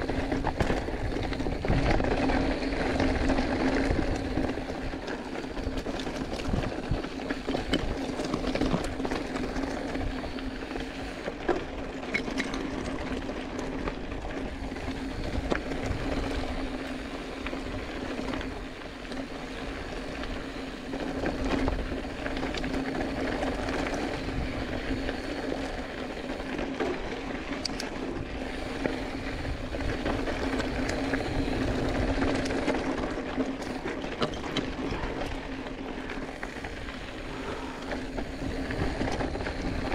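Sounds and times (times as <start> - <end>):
bike clicks and rattles: 0.0 - 39.9
bike tyres on loose stones: 0.0 - 39.9.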